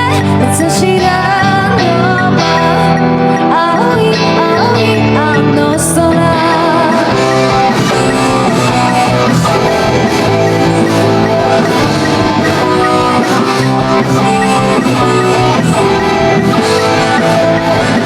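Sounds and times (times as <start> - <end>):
live band playing instrumental: 0.0 - 18.0
strummed guitar: 0.0 - 18.0.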